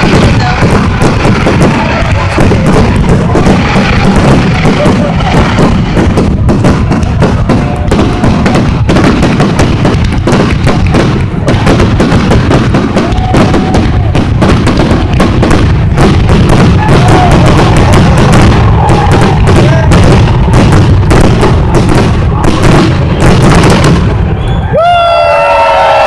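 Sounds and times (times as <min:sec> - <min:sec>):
low booms: 0:00.0 - 0:24.8
fireworks bursts and crackles: 0:00.0 - 0:26.0.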